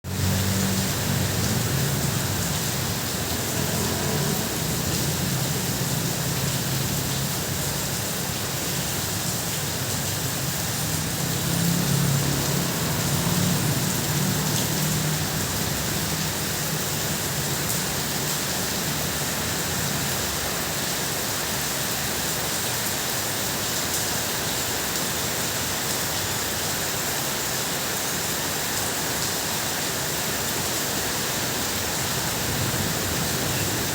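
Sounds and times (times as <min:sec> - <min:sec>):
heavy rain on a tin roof: 0:00.0 - 0:33.9.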